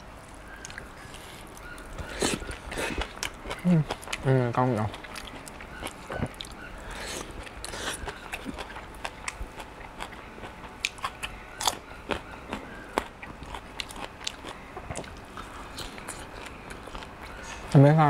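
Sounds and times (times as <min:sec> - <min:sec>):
person chewing food: 0:00.5 - 0:17.7.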